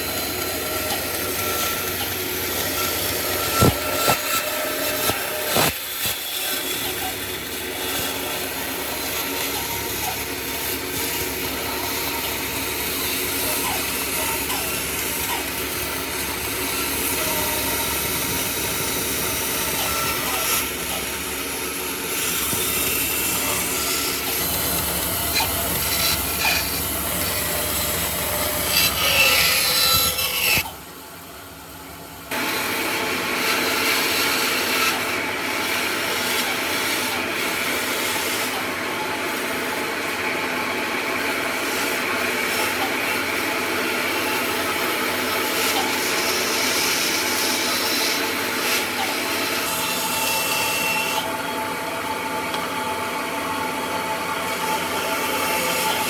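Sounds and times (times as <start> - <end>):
power tool working wood: 0.0 - 30.8, 32.3 - 56.0.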